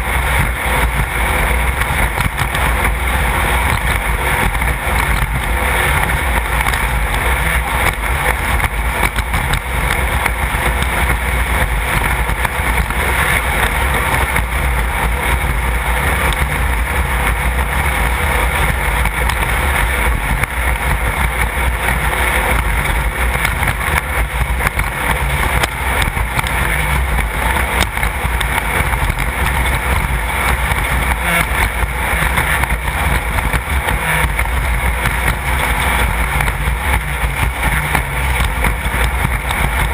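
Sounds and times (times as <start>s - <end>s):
race car engine at speed: 0.0s - 39.9s
wind noise: 0.0s - 39.9s.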